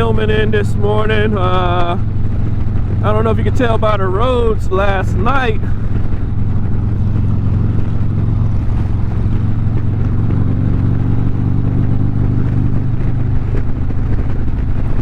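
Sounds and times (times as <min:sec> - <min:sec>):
motorcycle engine droning: 0:00.0 - 0:15.0
road and wind noise: 0:00.0 - 0:15.0.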